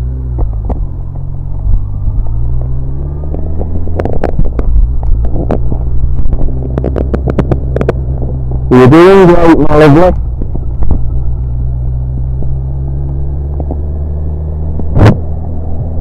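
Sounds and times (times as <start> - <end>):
motorcycle engine: 0.0 - 16.0
wind crackling on microphone: 0.4 - 16.0.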